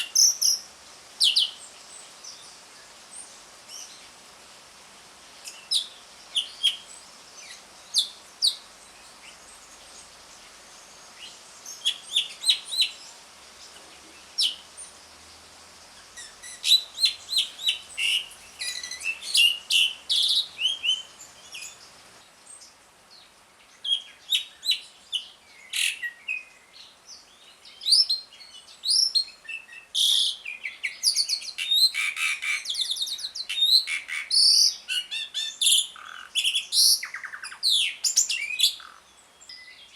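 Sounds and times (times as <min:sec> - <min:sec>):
starling calling: 0:00.0 - 0:04.2, 0:05.4 - 0:22.7, 0:23.8 - 0:26.6, 0:27.8 - 0:39.9.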